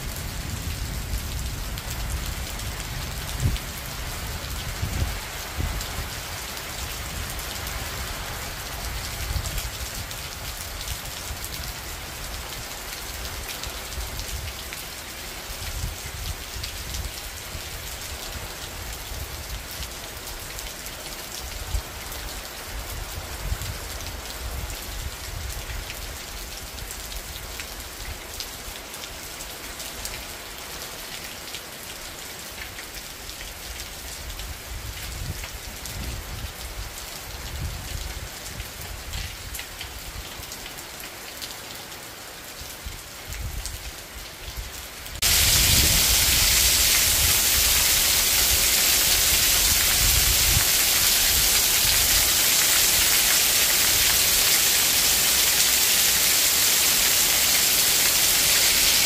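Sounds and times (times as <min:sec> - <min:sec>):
heavy wind-driven downpour: 0:00.0 - 0:59.0
steady rain falling: 0:00.0 - 0:59.0.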